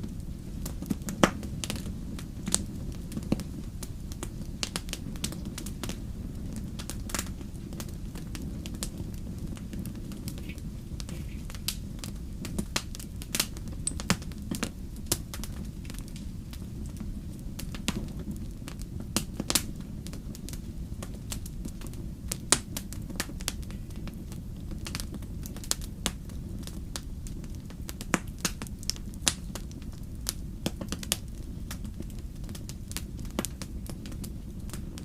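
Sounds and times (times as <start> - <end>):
steady low rumble: 0.0 - 35.0
wood fire crackling and popping: 0.0 - 35.0.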